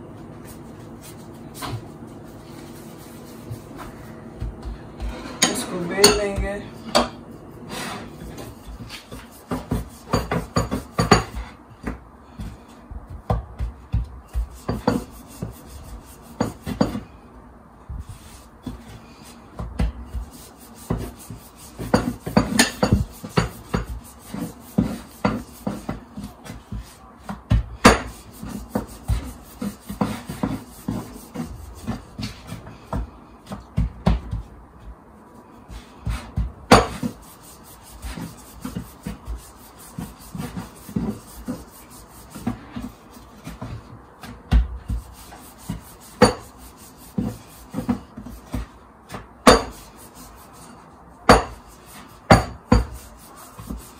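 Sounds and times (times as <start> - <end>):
rolling pin rubbing on dough: 0.2 - 17.2, 17.9 - 53.9.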